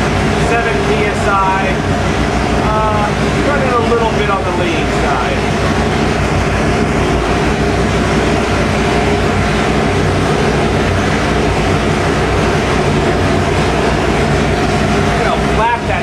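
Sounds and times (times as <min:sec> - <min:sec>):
vee eight engine rumbling: 0:00.0 - 0:16.0.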